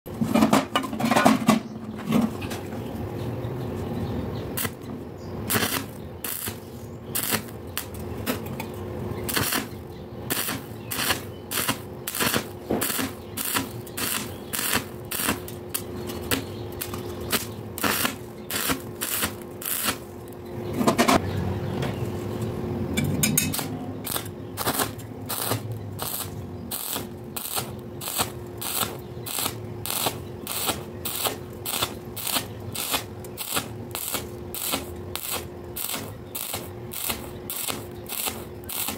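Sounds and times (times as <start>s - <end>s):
welding arc crackling: 4.5s - 20.5s, 23.4s - 38.9s.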